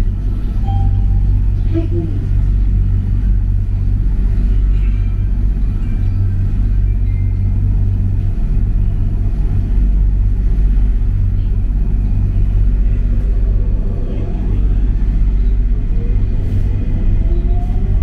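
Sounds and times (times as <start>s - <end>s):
low rumble of tyres: 0.0s - 18.0s.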